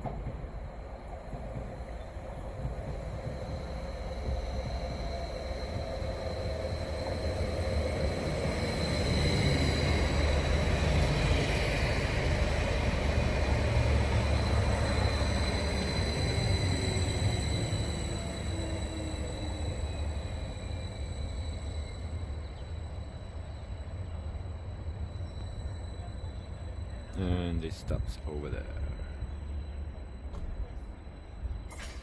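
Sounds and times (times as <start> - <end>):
train rumble: 0.0 - 32.0.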